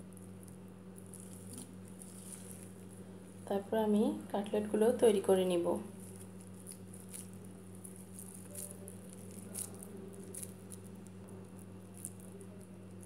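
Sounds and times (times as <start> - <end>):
hands squishing soft food: 0.0 - 3.5, 5.8 - 13.0
low electrical hum: 0.0 - 13.0.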